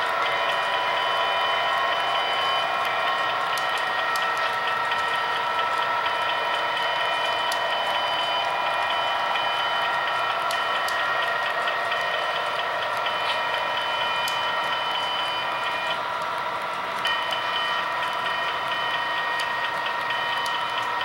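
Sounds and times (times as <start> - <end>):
model train humming: 0.0 - 21.0
wheels clicking on track: 0.0 - 21.0.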